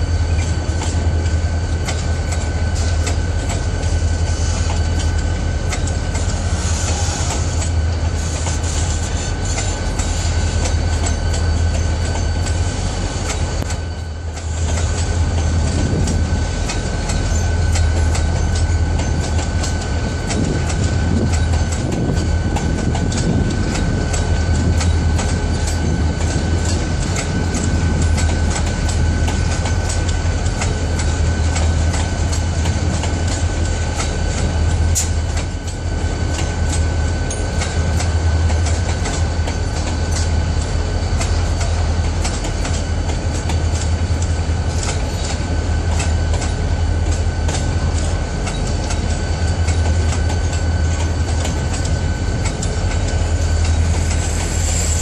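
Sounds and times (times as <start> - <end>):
freight train rolling past: 0.0 - 55.0
wheels clicking over rail joints: 0.3 - 4.0, 4.6 - 54.6.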